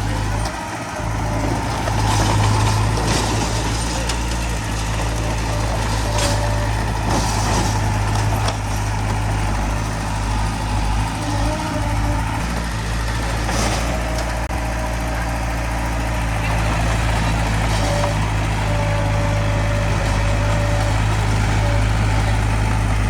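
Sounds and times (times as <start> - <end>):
diesel machinery engine hum: 0.0 - 23.0.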